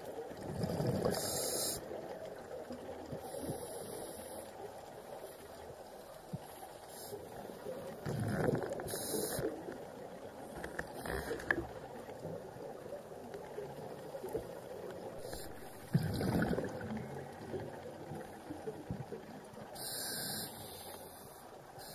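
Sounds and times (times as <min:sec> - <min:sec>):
exhaled bubbles rumbling underwater: 0:00.0 - 0:20.8
faint regulator hiss: 0:00.0 - 0:21.9.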